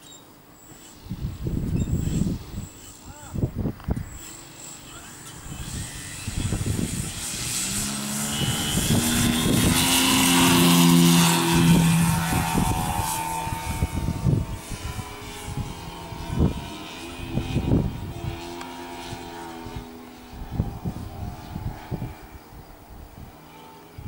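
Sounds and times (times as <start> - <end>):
model airplane motor and propeller: 0.0 - 24.0
wind buffeting microphone: 1.0 - 24.0.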